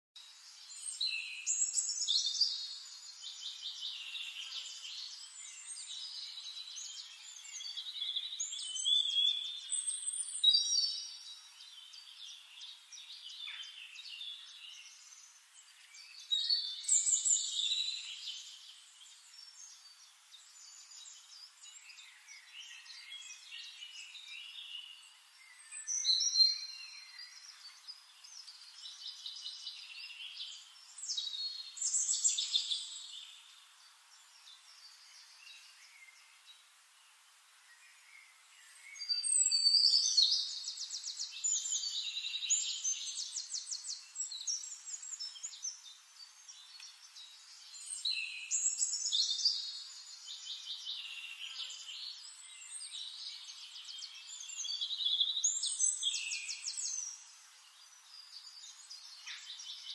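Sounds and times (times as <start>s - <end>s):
songbirds chirping and trilling: 0.2s - 59.9s.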